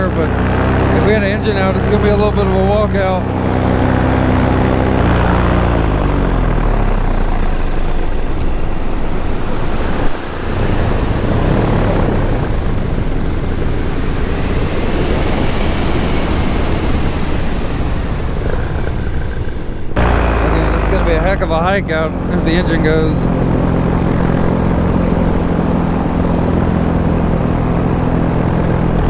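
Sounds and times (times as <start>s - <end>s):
paramotor engine and propeller: 0.0s - 29.0s.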